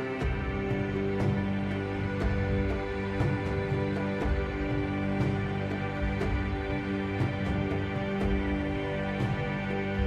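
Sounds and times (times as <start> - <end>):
soft percussive beat: 0.0 - 10.0
sustained music tones: 0.0 - 10.0.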